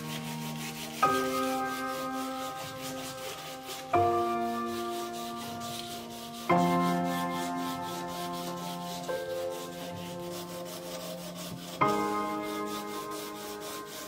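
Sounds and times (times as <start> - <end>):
soft music with sustained chords: 0.0 - 14.0.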